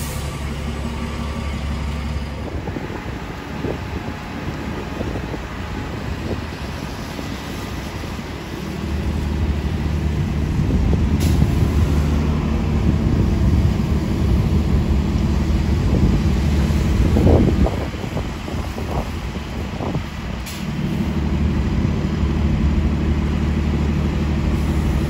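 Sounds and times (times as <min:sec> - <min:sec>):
bus engine running: 0:00.0 - 0:25.0.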